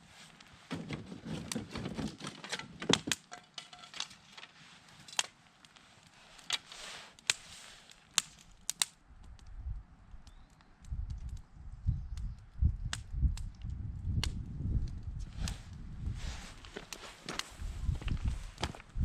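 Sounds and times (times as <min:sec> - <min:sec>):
dry wood cracking and snapping: 0:00.3 - 0:11.5, 0:12.1 - 0:15.8, 0:16.5 - 0:19.0.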